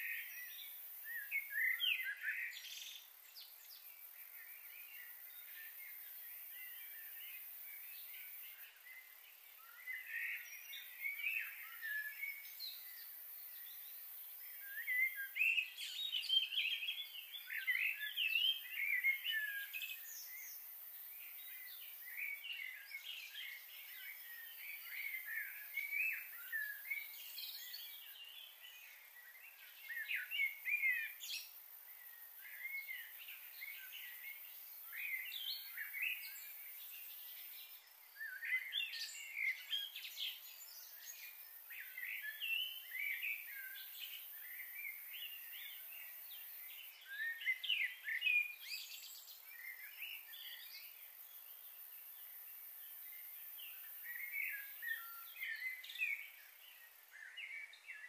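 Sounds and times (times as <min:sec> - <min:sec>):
faint hiss: 0:00.0 - 0:58.0
small birds chirping: 0:00.0 - 0:58.0.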